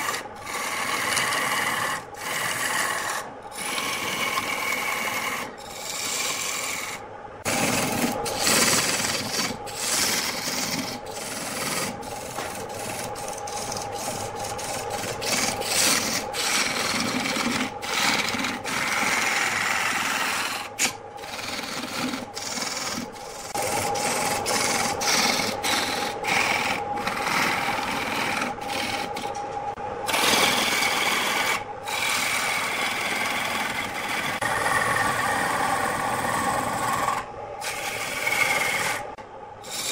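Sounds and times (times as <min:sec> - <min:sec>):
turning tool scraping wood: 0:00.0 - 0:29.4, 0:30.1 - 0:39.9
lathe motor hum: 0:00.0 - 0:39.9.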